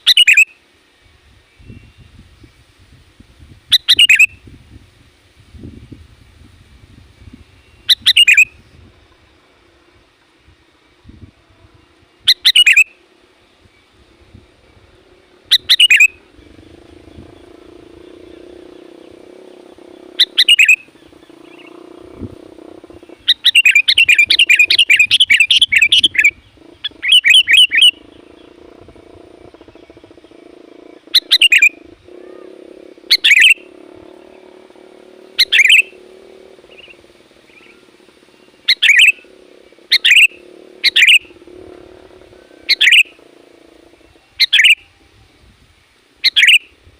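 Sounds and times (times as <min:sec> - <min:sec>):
bulbul calling: 0:00.0 - 0:00.6, 0:03.7 - 0:04.6, 0:06.9 - 0:45.2, 0:46.2 - 0:46.8
faint low hum: 0:00.0 - 0:46.9.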